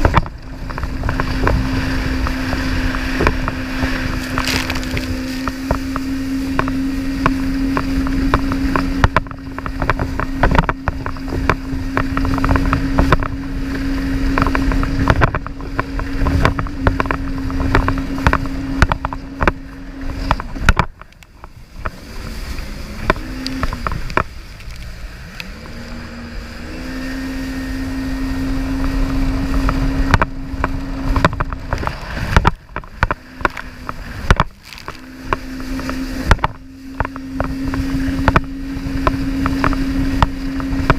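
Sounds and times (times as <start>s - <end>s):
jet ski engine drone: 0.0s - 40.9s.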